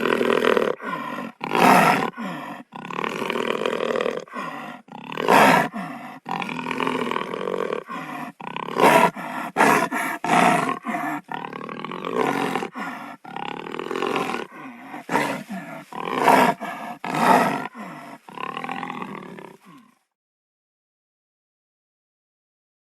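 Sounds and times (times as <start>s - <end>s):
wild cat calling: 0.0s - 19.8s.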